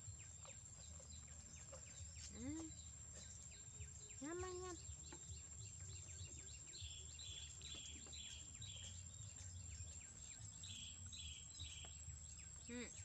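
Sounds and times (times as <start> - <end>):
bird buzzy chirping: 0.0 - 13.0.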